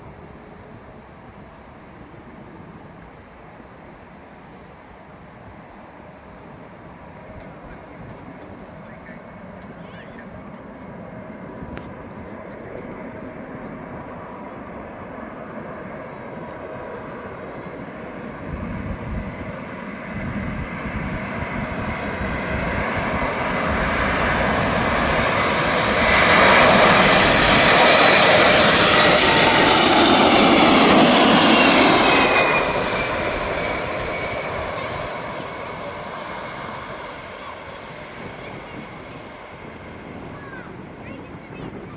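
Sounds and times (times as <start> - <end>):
aircraft engines roaring: 0.0 - 41.9.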